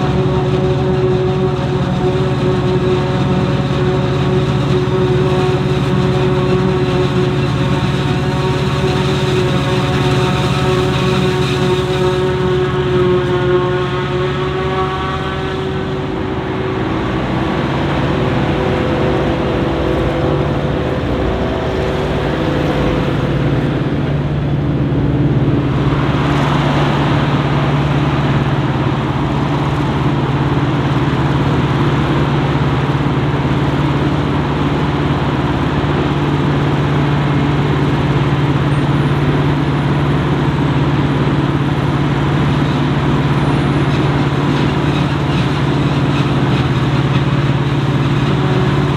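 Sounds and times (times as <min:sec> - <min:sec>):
heavy diesel farm machinery running: 0:00.0 - 0:48.9.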